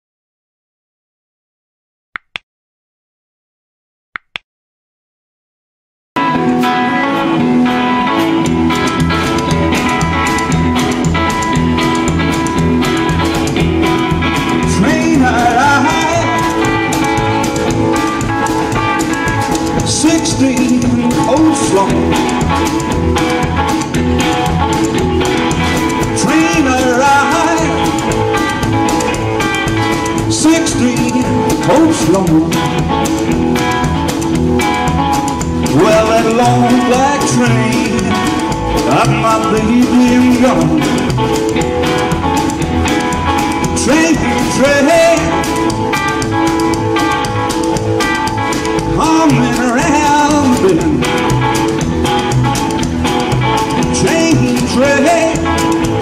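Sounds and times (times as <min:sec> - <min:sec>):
rockabilly band playing: 0:06.2 - 0:56.0.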